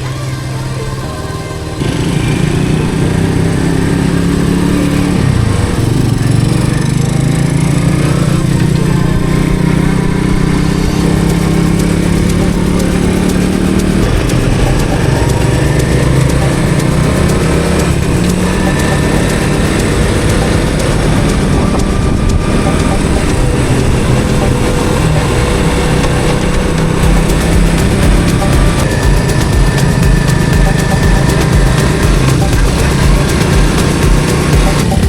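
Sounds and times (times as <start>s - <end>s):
small motorbike engine running: 0.0s - 35.0s.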